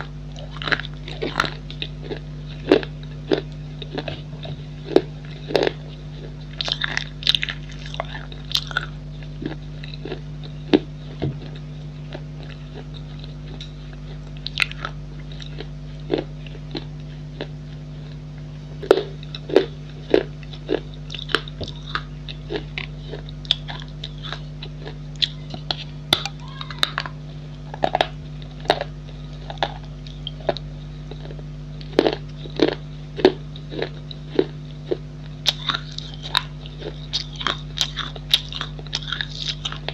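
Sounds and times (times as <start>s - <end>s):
clay pieces crunching when chewed: 0.0s - 39.9s
low hum: 0.0s - 39.9s.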